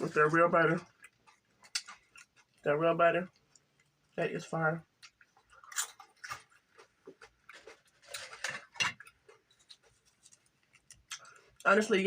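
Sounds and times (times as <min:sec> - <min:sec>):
person chewing food: 0:00.0 - 0:04.2, 0:04.8 - 0:11.7.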